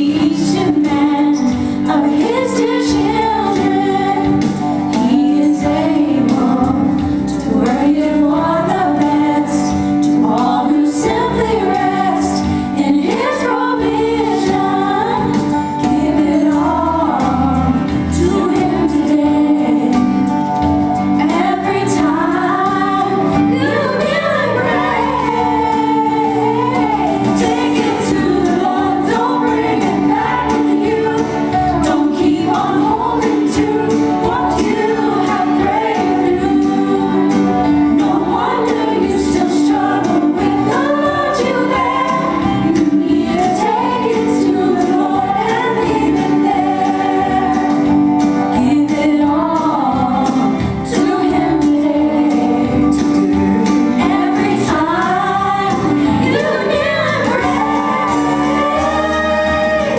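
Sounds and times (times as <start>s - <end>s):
instrumental accompaniment: 0.0s - 59.9s
women singing gospel song: 0.0s - 59.9s.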